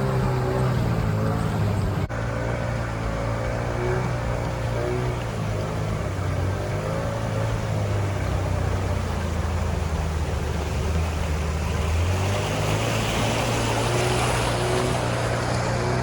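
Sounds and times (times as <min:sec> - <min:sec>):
boat motor running: 0:00.0 - 0:16.0
water rushing past hull: 0:00.0 - 0:16.0.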